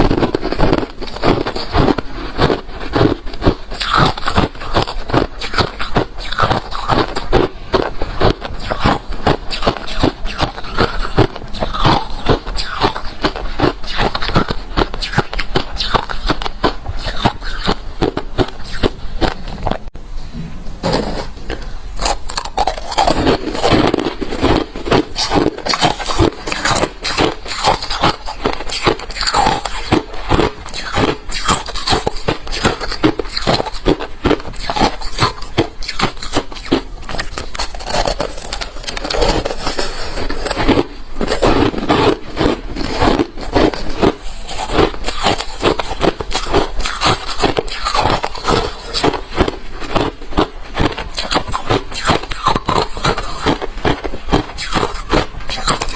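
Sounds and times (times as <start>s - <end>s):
ice being chewed: 0.0s - 19.9s, 21.1s - 55.9s.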